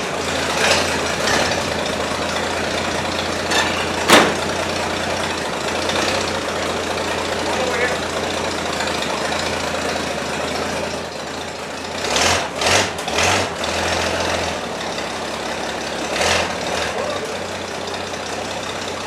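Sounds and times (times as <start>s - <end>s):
car engine running: 0.0s - 19.0s
loud engine bursts: 0.0s - 19.0s.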